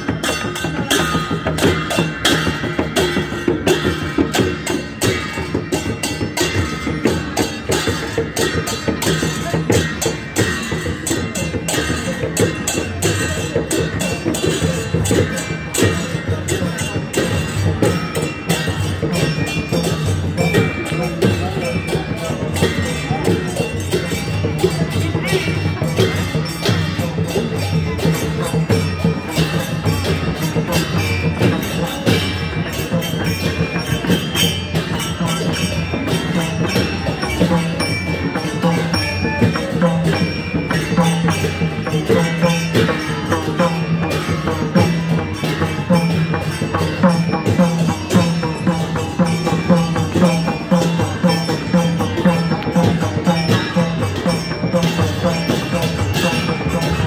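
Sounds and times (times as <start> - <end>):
jingling ringing percussion: 0.0 - 57.0
rapid folk drumming: 0.0 - 57.0.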